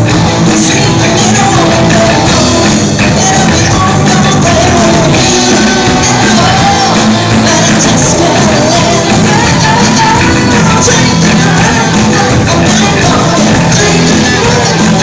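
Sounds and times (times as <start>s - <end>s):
person singing or shouting: 0.0s - 15.0s
rock band playing live: 0.0s - 15.0s.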